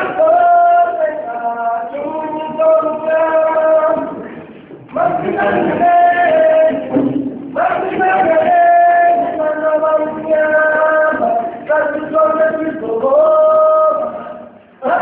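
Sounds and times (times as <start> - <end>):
unaccompanied voices singing: 0.0 - 15.0.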